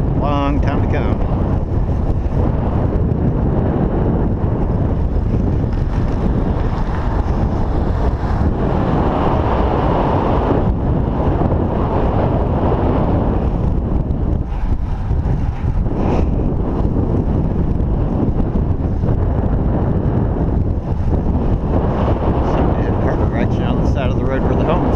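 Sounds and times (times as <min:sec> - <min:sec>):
wind rushing over microphone: 0:00.0 - 0:24.9.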